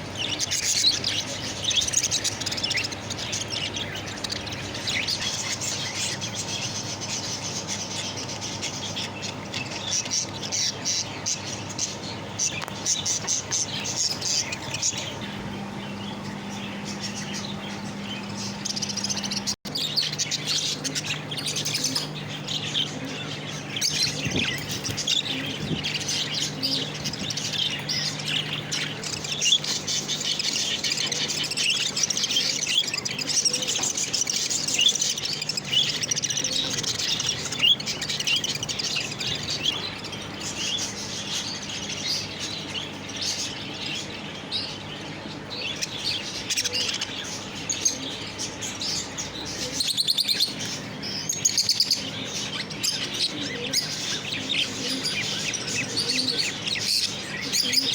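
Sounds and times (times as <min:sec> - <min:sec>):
lovebirds chirping: 0:00.0 - 0:57.9.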